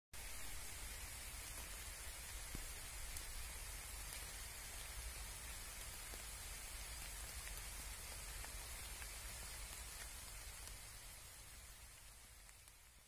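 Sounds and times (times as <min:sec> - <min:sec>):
light rain: 0:00.2 - 0:13.0.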